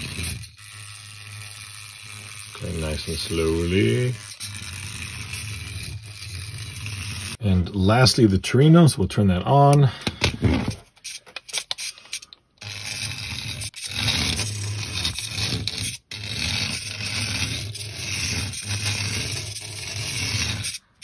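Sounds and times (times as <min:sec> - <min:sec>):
toy car motor running: 0:00.0 - 0:07.4, 0:10.5 - 0:21.0.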